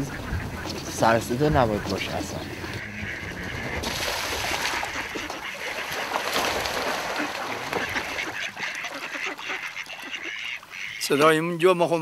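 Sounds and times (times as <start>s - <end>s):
ducks splashing in water: 0.0s - 11.4s.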